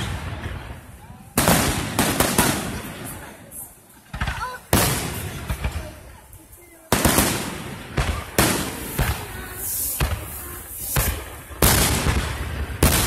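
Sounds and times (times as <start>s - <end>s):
fireworks bursting with booms: 0.0s - 13.0s.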